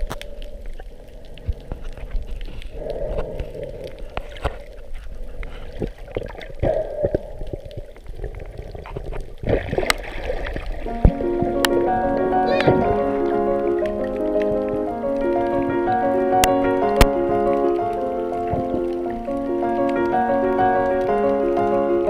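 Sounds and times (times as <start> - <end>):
muffled underwater rush: 0.0 - 22.0.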